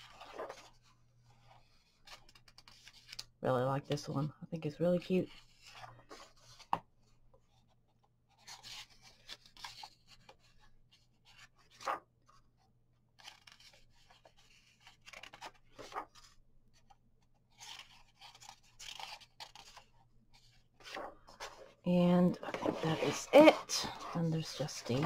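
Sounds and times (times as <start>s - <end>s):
paper pages rustling: 0.0s - 3.4s, 4.9s - 12.6s, 13.2s - 25.0s.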